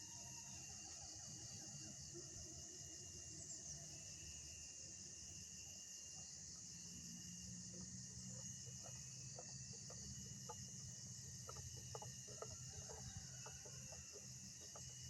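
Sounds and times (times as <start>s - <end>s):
high drone of insects: 0.0s - 15.0s.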